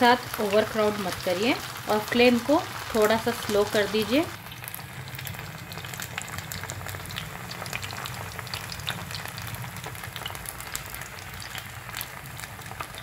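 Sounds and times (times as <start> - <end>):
fish frying in hot oil: 0.0 - 13.0
oil popping and crackling: 0.0 - 13.0.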